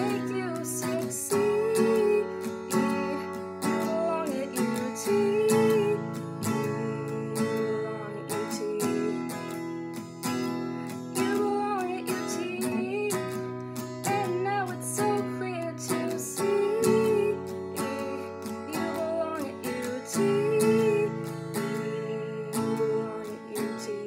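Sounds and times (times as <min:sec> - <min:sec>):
acoustic guitar strummed: 0:00.0 - 0:24.0
woman singing: 0:00.0 - 0:24.0.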